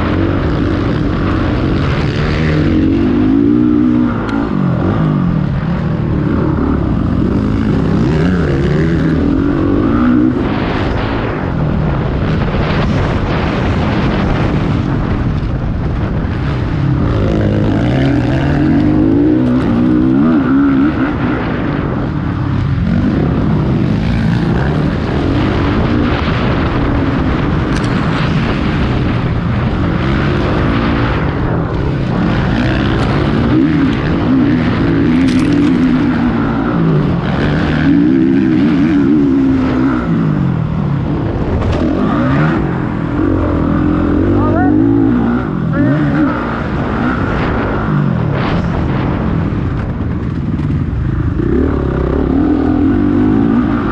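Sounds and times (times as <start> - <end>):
motocross bike engines racing: 0.0 - 53.9.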